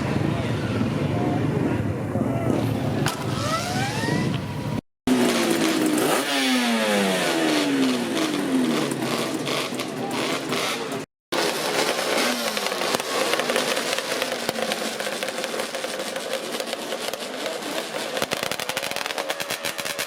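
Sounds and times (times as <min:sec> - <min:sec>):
two-stroke motorcycle engine revving: 0:02.4 - 0:20.0.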